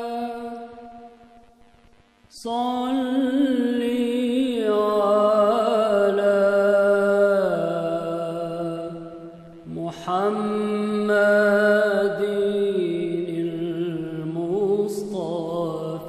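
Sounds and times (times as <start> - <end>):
person singing unaccompanied: 0.0 - 1.4, 2.3 - 16.0.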